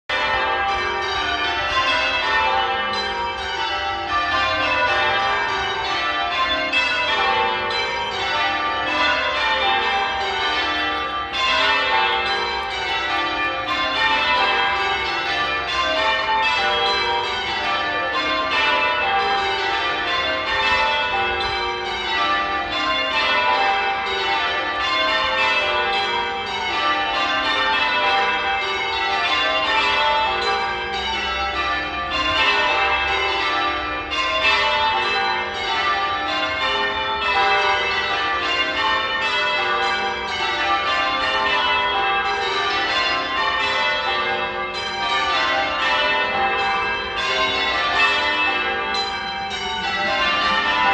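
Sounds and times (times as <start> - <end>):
tower bells change ringing: 0.1 - 50.9.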